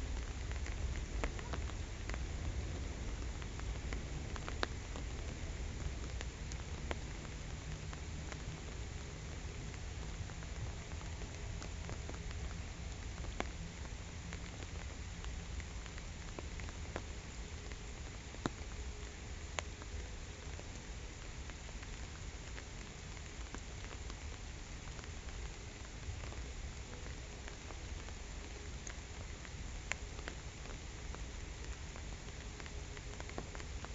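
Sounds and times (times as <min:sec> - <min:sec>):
rain falling on a pond: 0:00.0 - 0:33.9.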